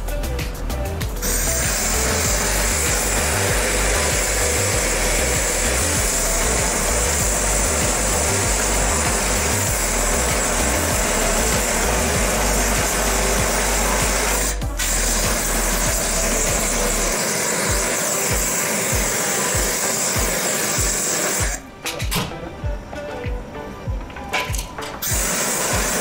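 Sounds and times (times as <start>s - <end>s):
gas torch flame hissing: 0.0s - 22.0s, 25.0s - 26.0s
background music beat: 0.0s - 26.0s.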